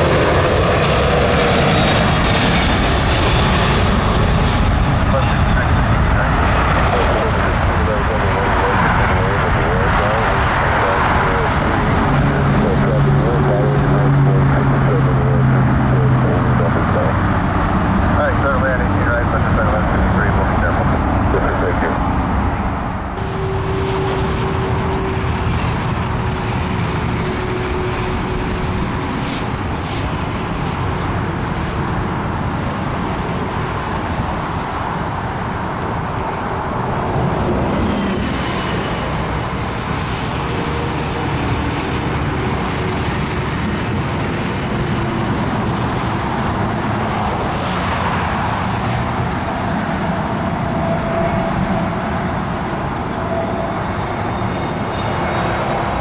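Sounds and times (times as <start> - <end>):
engine and traffic rumble: 0.0 - 56.0.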